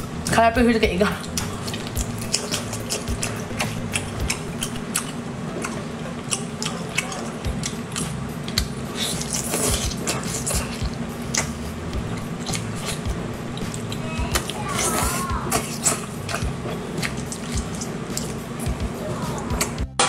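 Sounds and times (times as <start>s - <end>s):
low hum: 0.0s - 20.0s
wet chewing and smacking: 1.2s - 18.9s.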